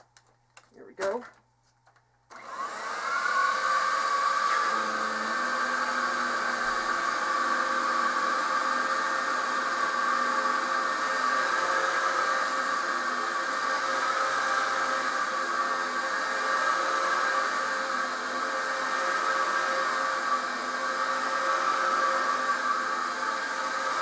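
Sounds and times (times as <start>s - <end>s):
vacuum cleaner running: 2.3s - 24.0s.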